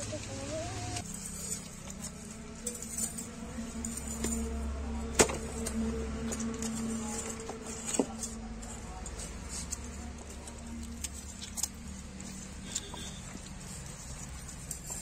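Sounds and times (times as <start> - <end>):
hands packing wet clay: 0.8 - 15.0.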